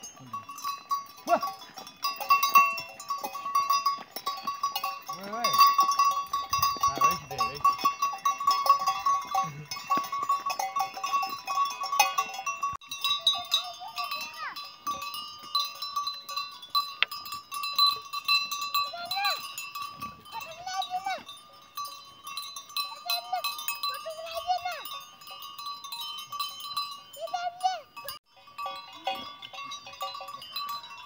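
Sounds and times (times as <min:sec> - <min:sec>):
metal bells clanking: 0:00.0 - 0:31.0.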